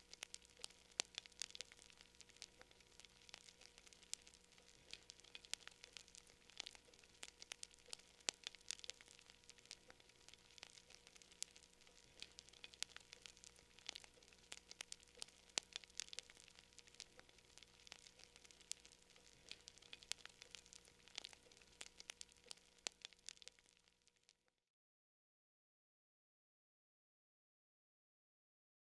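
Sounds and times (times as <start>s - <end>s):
steady low hum: 0.0s - 23.5s
faint crackling clicks: 0.0s - 24.5s.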